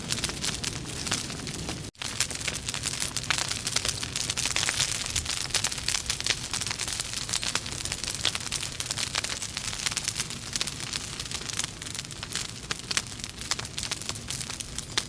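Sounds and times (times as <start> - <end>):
logs crackling in fireplace: 0.0 - 15.0.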